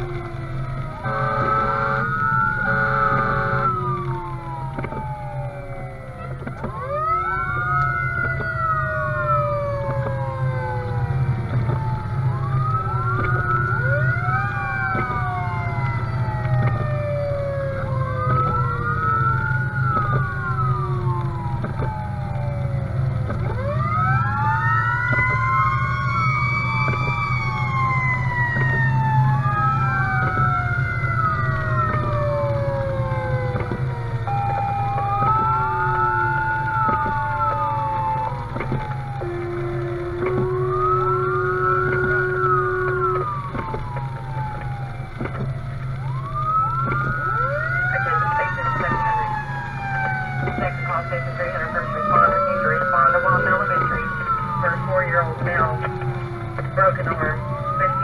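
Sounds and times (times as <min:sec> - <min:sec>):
fire engine siren wailing: 0:00.0 - 0:58.0
truck engine and road drone: 0:00.0 - 0:58.0.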